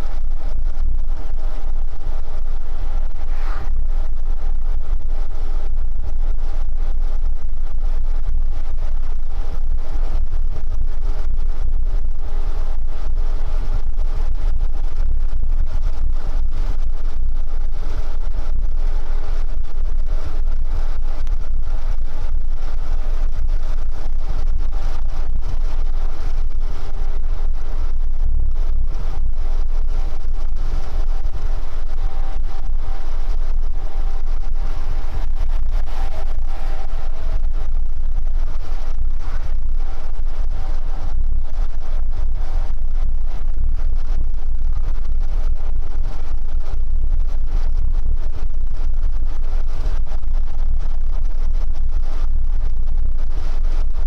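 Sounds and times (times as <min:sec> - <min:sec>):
engine drone: 0:00.0 - 0:54.0
low road rumble: 0:00.0 - 0:54.0.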